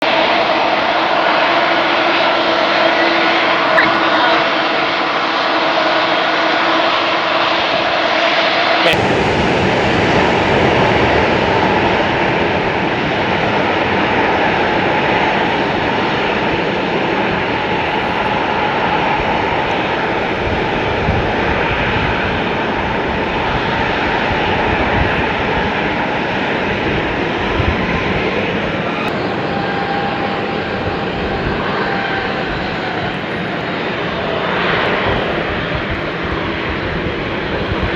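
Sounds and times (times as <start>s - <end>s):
jet engines roaring: 0.0s - 37.9s.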